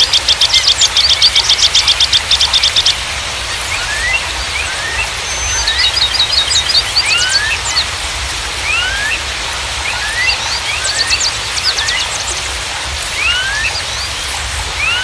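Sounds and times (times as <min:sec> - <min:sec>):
rushing water: 0:00.0 - 0:15.0
songbirds chirping and trilling: 0:00.0 - 0:15.0.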